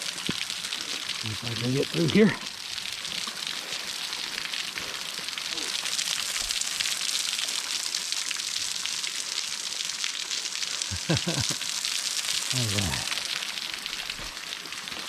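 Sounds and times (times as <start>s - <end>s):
waterfall splashing onto rock: 0.0s - 15.0s.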